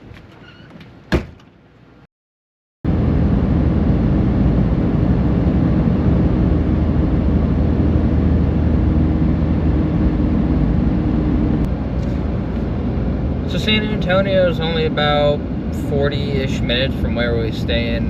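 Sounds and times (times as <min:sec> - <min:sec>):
engine and road noise drone: 0:02.9 - 0:18.0.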